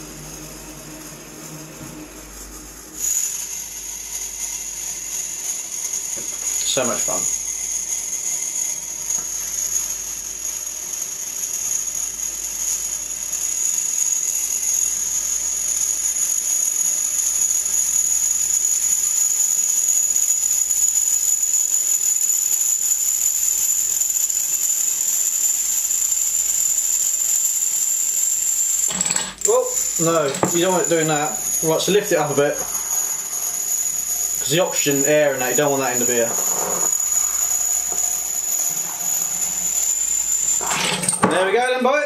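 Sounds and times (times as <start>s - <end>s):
thin high whine: 0.0s - 42.0s.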